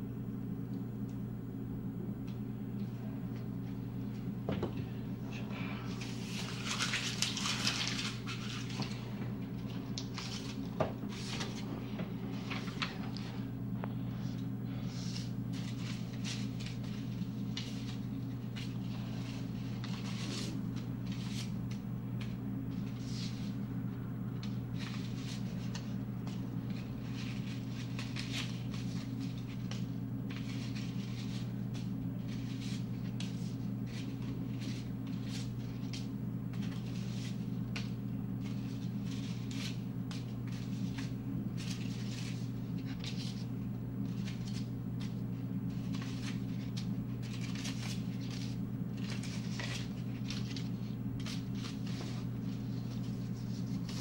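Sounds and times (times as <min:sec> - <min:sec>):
steady low hum: 0:00.0 - 0:54.0
paper crinkling and rustling: 0:05.9 - 0:13.4, 0:15.1 - 0:23.6, 0:24.3 - 0:54.0.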